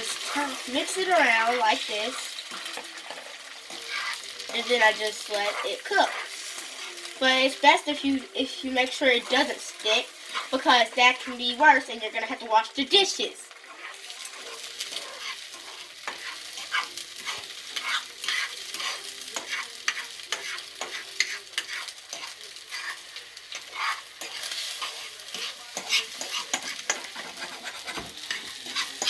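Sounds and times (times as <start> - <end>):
eggs sizzling in a pan: 0.0 - 29.0.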